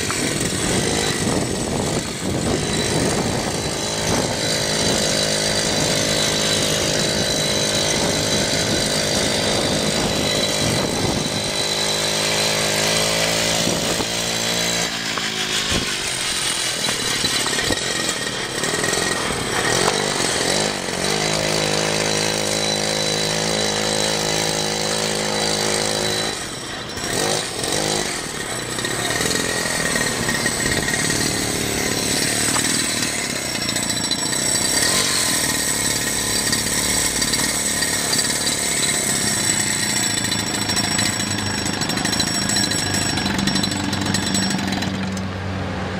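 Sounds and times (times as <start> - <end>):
small two-stroke engine revving: 0.0 - 45.9.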